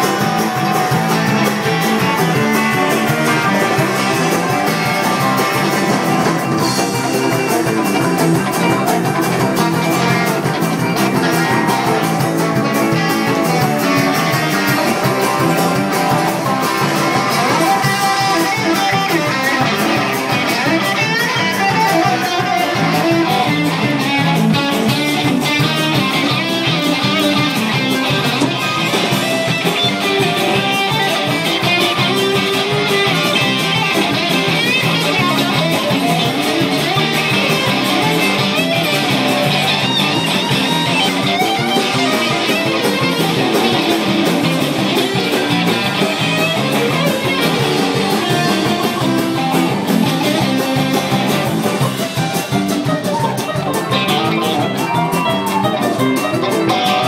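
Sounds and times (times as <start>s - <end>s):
fast plucked guitar notes: 0.0s - 57.0s.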